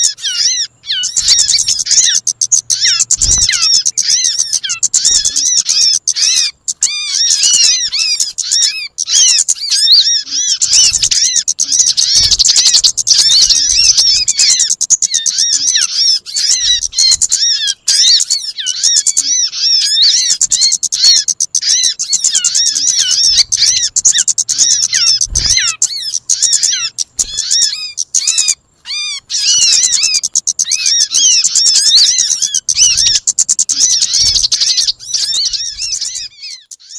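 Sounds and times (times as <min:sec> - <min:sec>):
songbirds twittering: 0:00.0 - 0:36.9.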